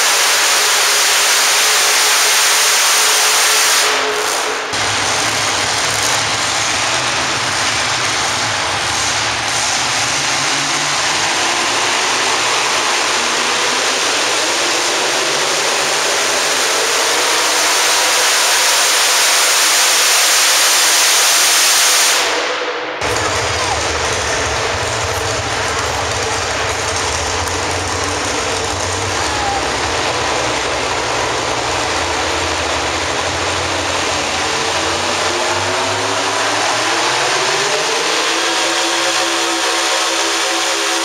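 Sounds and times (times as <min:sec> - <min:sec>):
truck engine roaring at full throttle: 0:00.0 - 0:41.0.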